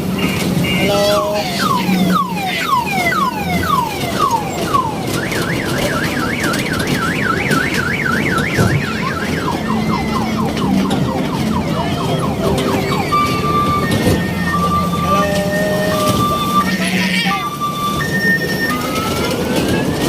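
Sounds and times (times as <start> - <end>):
electronic siren wailing: 0.7 - 20.0.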